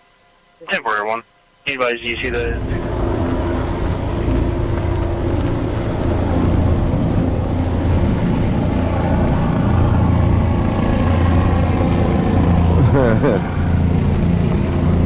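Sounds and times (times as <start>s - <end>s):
loud engine drone: 1.7s - 15.0s.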